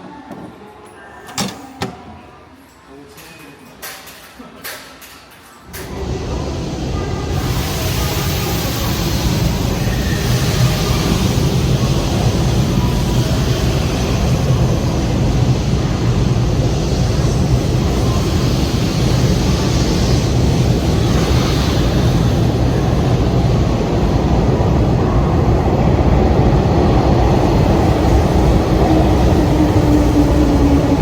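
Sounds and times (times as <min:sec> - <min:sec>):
electric train rumbling: 0:05.7 - 0:31.0.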